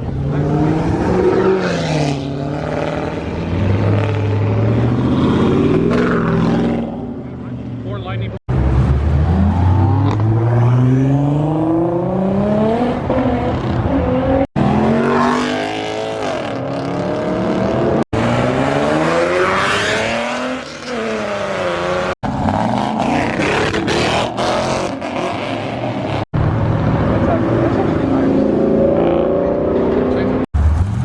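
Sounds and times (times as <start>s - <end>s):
car engines accelerating hard: 0.0s - 31.0s.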